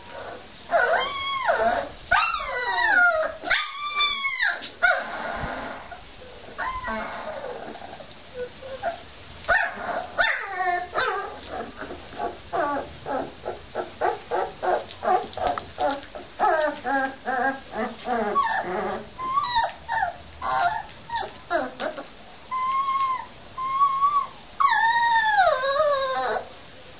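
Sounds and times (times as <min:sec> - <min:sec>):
puppies whimpering and squeaking: 0:00.0 - 0:26.5
puppy wailing: 0:00.0 - 0:26.5.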